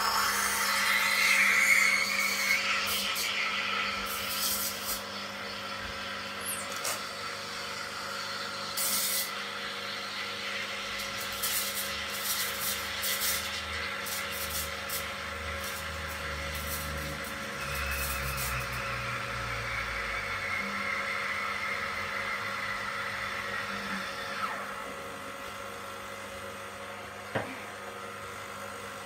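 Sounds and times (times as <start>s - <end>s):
espresso machine humming: 0.0s - 29.0s.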